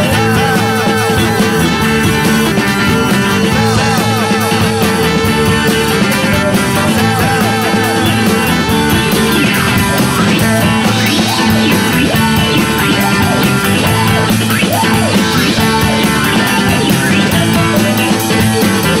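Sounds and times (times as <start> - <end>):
psychedelic rock guitar over beat: 0.0 - 19.0.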